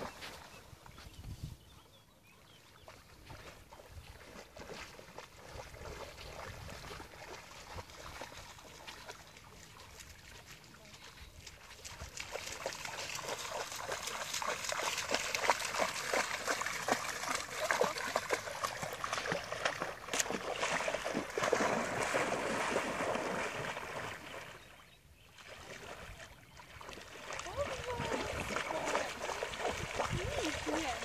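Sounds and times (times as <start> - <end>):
water swishing as dog swims: 2.4 - 31.0
dog splashing through water: 2.9 - 24.6, 25.4 - 31.0.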